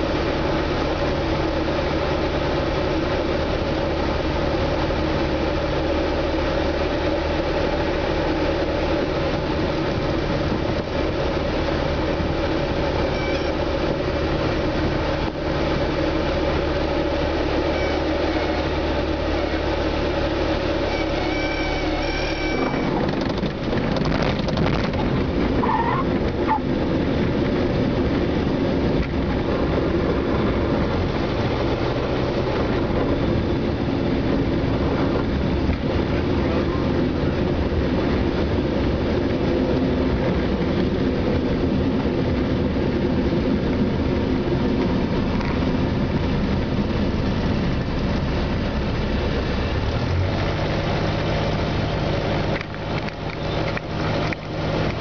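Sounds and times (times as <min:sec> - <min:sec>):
propeller plane engine drone: 0:00.0 - 0:55.0
wheels rumbling on runway: 0:00.0 - 0:55.0.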